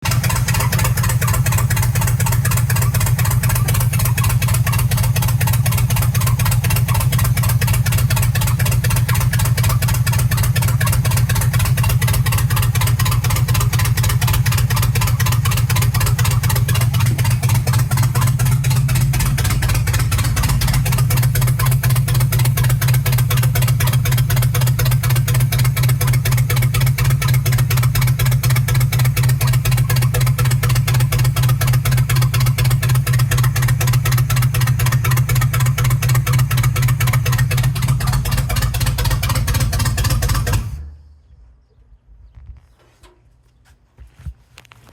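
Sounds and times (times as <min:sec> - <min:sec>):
misfiring engine idling: 0:00.0 - 0:41.7.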